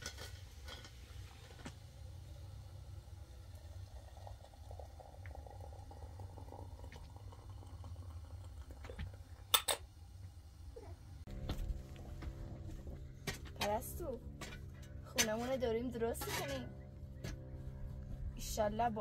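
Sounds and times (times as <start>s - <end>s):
gas burner flame rumbling: 0.0s - 19.0s.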